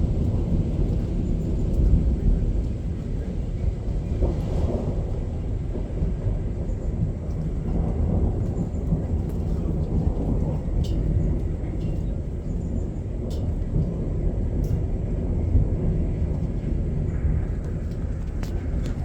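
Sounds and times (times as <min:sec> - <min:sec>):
distant thunder rumbling: 0:00.0 - 0:19.0.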